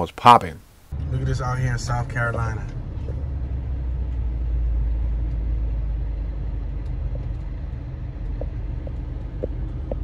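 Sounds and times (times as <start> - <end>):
moving vehicle rumble: 0.8 - 10.0.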